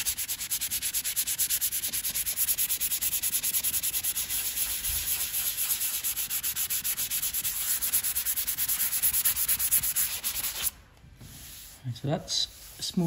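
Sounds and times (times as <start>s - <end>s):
hand sanding strokes: 0.0s - 13.0s.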